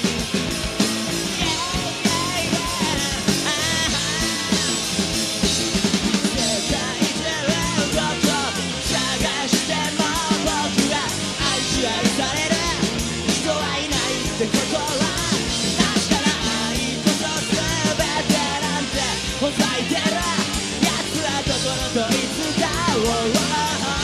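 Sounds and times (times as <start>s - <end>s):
driving drum kit: 0.0s - 24.0s
loud rock band song: 0.0s - 24.0s.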